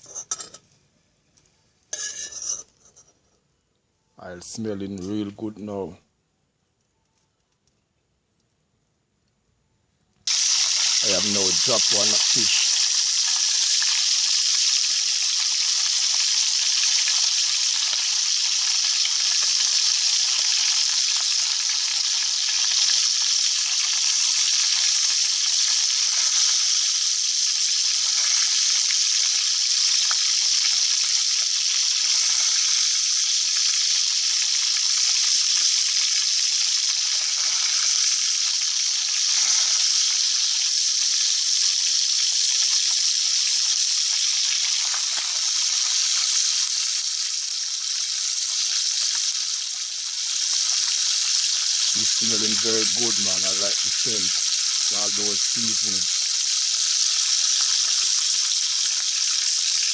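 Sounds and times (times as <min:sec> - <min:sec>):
fish sizzling in hot oil: 0:10.3 - 0:59.9.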